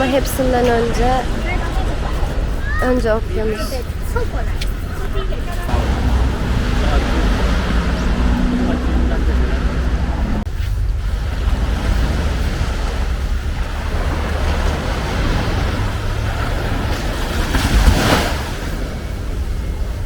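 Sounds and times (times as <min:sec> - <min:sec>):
ocean waves washing ashore: 0:00.0 - 0:20.0
wind rumbling on microphone: 0:00.0 - 0:20.0.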